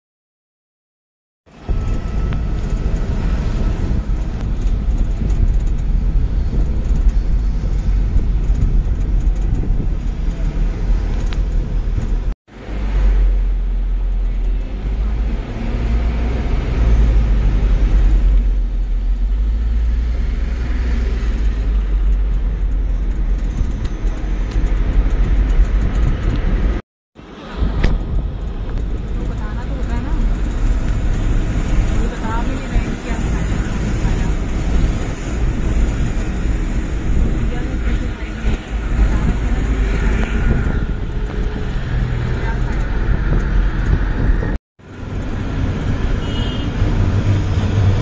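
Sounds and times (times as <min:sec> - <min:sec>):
vehicle rumbling in motion: 0:01.5 - 0:48.0.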